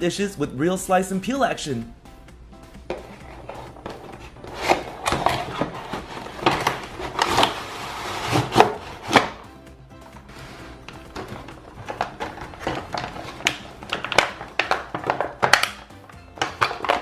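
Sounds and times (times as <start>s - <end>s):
light background music: 0.0s - 17.0s.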